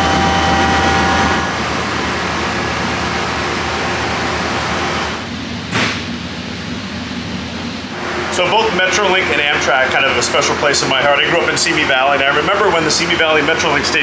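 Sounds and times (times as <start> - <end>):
diesel locomotive idling: 0.0 - 14.0
high whine: 0.0 - 14.0.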